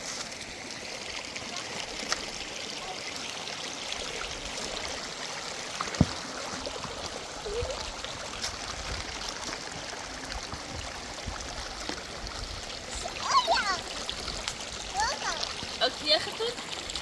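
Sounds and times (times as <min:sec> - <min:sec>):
rush of running water: 0:00.0 - 0:17.0.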